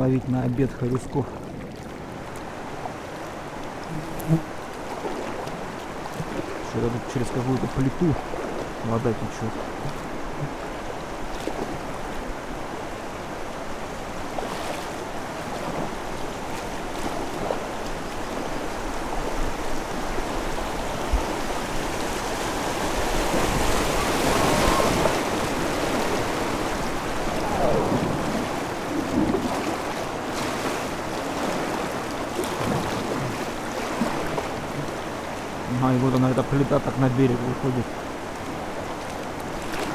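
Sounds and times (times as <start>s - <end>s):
river water rushing over rock: 0.0s - 39.9s.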